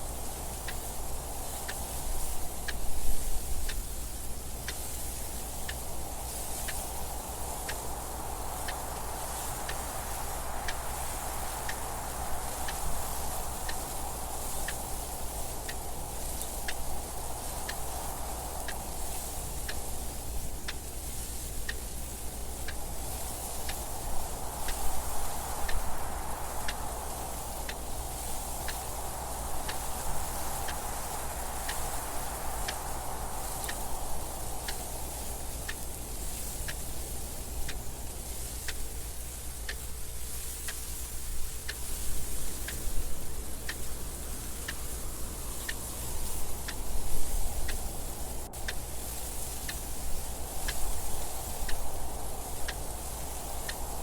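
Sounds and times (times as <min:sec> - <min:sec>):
gusting wind: 0:00.0 - 0:54.0.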